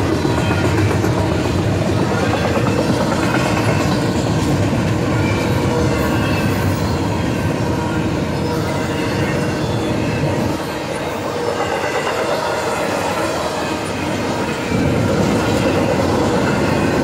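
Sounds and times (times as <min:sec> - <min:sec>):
freight train wheels on rails: 0:00.0 - 0:17.0.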